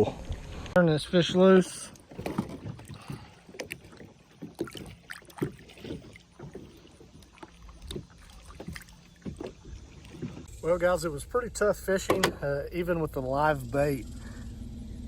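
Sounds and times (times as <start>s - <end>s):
water splashing against boat: 0.0s - 14.1s.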